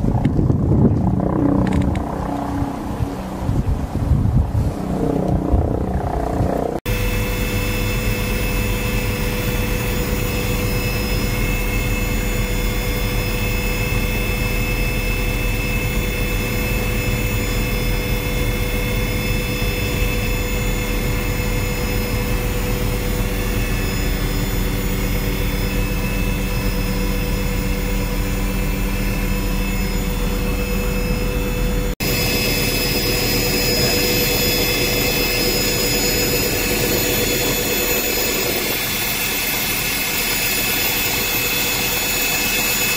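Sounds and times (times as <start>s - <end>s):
helicopter engine whine: 0.0s - 42.9s
helicopter rotor drone: 0.0s - 42.9s.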